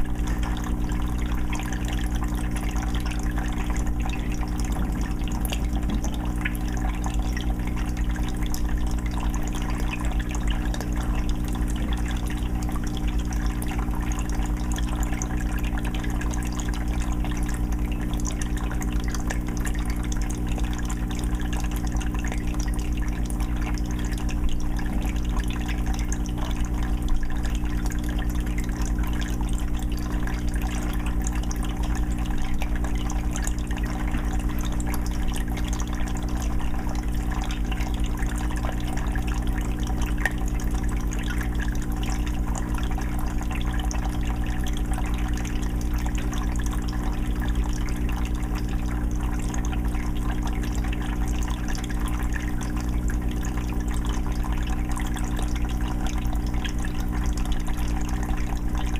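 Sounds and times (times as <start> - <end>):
filter low hum: 0.0 - 58.9
water trickling and splashing: 0.0 - 58.9.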